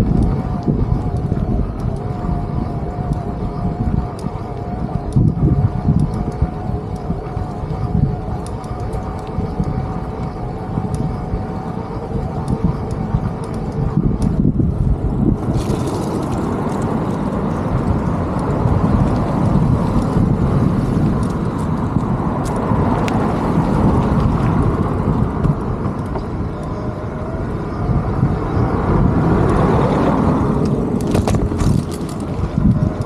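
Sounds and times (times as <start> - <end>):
street traffic: 0.0 - 33.0
wind rumble on microphone: 0.0 - 33.0.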